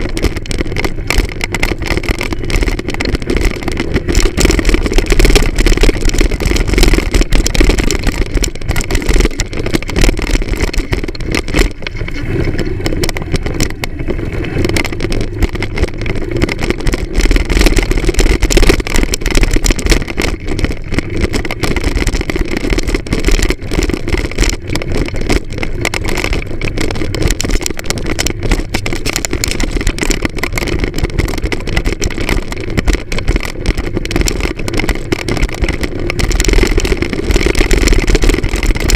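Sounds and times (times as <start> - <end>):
knocks and rattles: 0.0 - 38.9
moped engine running: 0.0 - 38.9.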